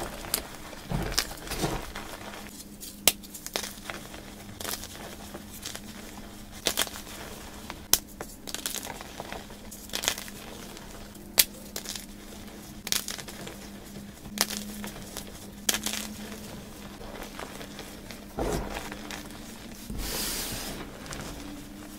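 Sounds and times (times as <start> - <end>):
chalk powder rustling: 0.0 - 21.9
chalk snapping and crumbling: 0.0 - 21.9
faint hum: 0.0 - 21.9.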